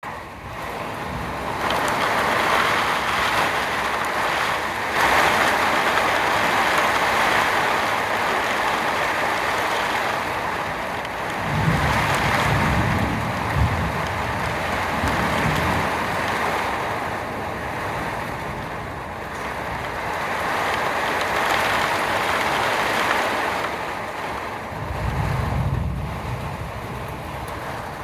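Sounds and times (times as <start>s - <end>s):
heavy rain pouring: 0.0s - 28.0s
low rumble of thunder: 0.5s - 20.6s, 24.3s - 28.0s.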